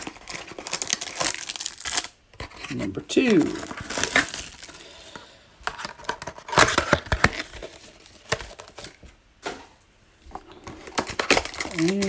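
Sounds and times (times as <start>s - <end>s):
plastic wrappers crinkling and tearing: 0.0s - 9.1s, 10.3s - 12.0s.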